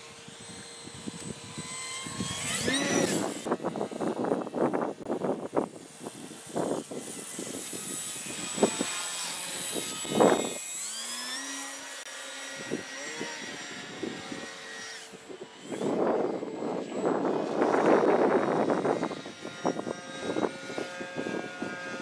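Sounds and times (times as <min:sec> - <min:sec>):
wind noise on microphone: 0:00.0 - 0:11.4, 0:12.4 - 0:22.0
model plane motor whine: 0:00.0 - 0:22.0.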